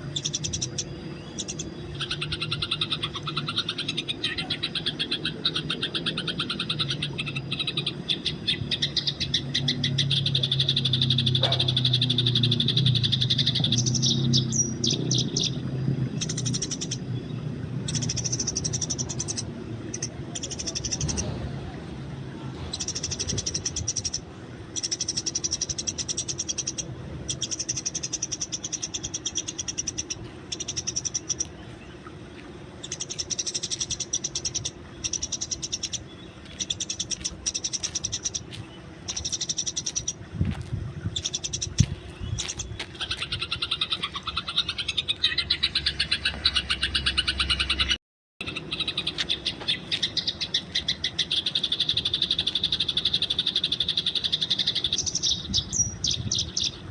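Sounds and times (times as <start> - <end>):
sparrows chattering: 0.0 - 21.8, 22.4 - 56.9.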